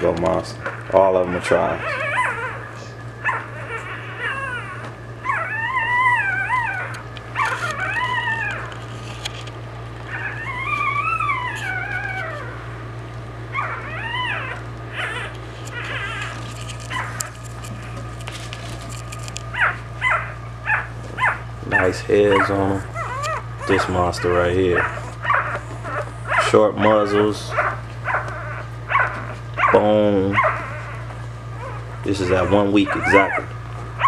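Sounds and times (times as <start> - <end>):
puppies whining and squealing: 0.0 - 34.0.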